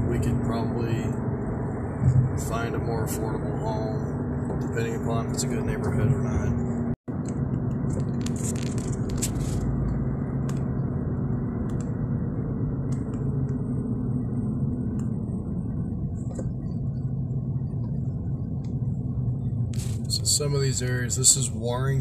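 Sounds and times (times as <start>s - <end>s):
car engine and tyre rumble: 0.0s - 22.0s
faint hum: 0.0s - 22.0s.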